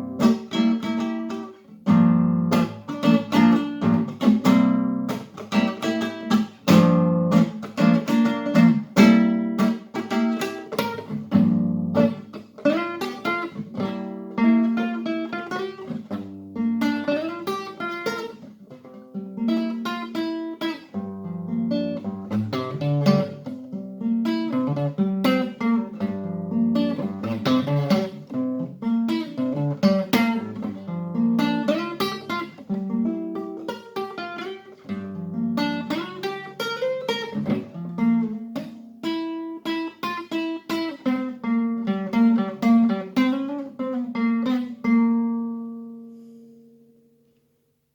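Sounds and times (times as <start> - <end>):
acoustic guitar strumming and picking: 0.0 - 47.1.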